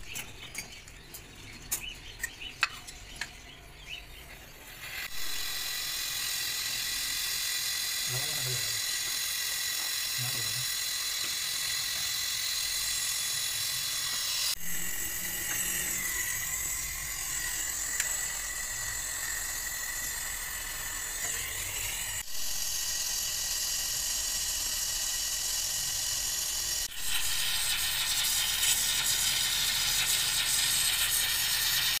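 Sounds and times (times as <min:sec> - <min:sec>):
gas torch hissing: 0:04.4 - 0:32.0.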